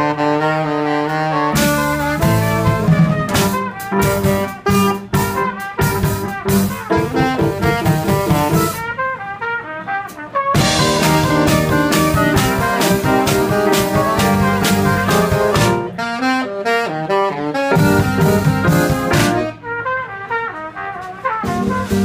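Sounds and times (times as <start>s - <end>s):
trumpet and saxophone melody: 0.0s - 22.0s
drum kit: 1.1s - 16.1s, 17.5s - 22.0s.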